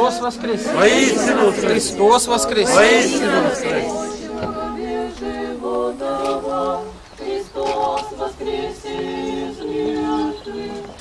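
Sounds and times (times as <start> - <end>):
choir singing a cappella: 0.0 - 11.0.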